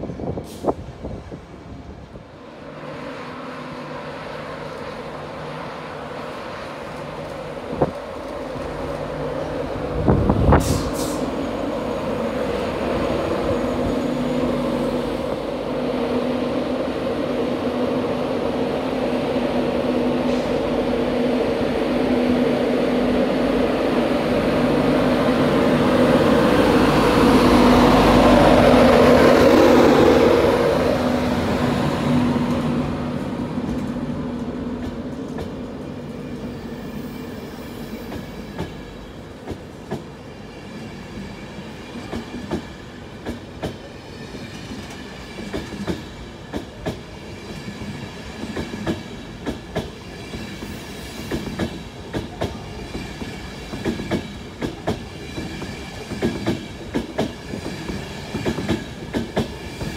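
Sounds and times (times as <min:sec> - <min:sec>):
electric locomotive hum: 0:00.0 - 0:59.9
wheel and rail rumble: 0:00.0 - 0:59.9.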